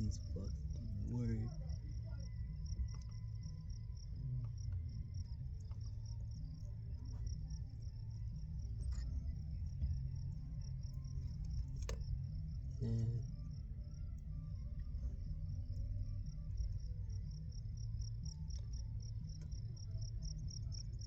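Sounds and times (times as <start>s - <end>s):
crickets chirping: 0.0s - 21.0s
low background rumble: 0.0s - 21.0s.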